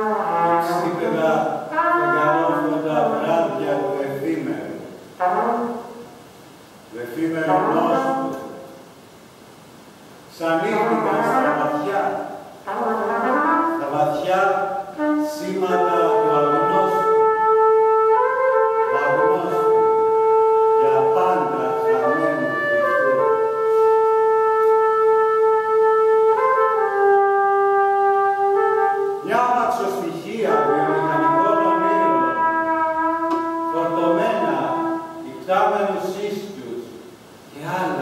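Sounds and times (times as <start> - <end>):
solo trumpet: 0.0 - 9.0, 10.3 - 36.1.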